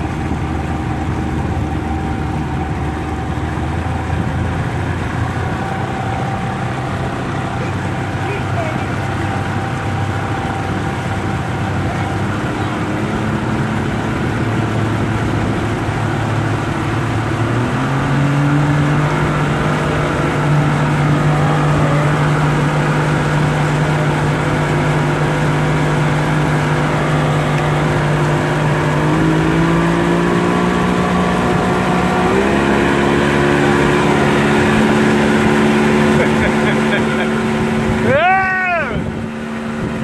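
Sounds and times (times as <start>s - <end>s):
motorboat engine running: 0.0s - 40.0s
rushing water: 0.0s - 40.0s
wind: 0.0s - 40.0s.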